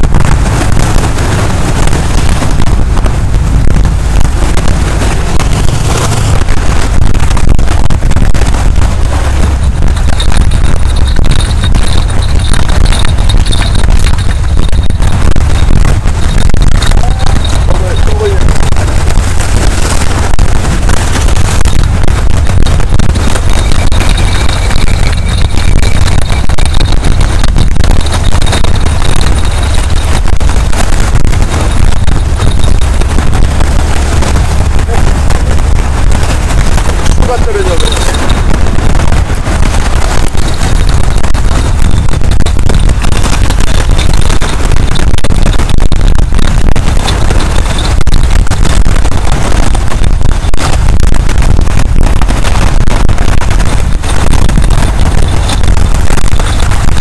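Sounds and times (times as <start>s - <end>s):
surf washing over rocks: 0.0s - 57.0s
wind buffeting microphone: 0.0s - 57.0s.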